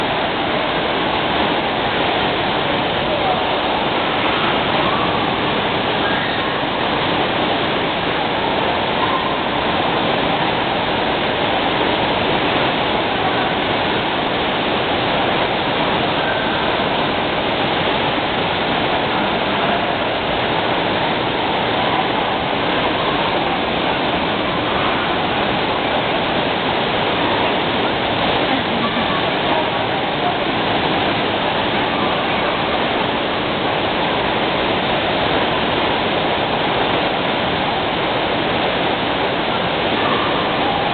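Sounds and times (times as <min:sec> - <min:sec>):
falling and splashing water: 0:00.0 - 0:40.9.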